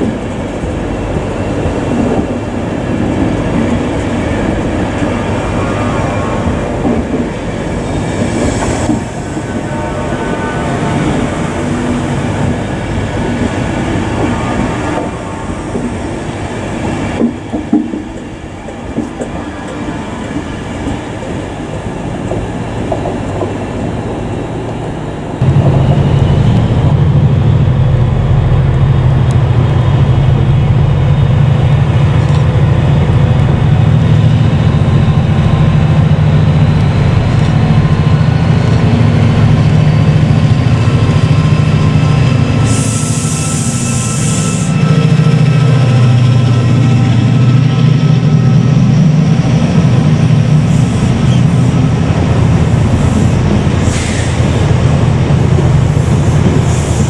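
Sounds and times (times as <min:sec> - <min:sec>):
diesel locomotive engine drone: 0:00.0 - 0:57.0
train rolling past with wheel clatter: 0:00.0 - 0:57.0.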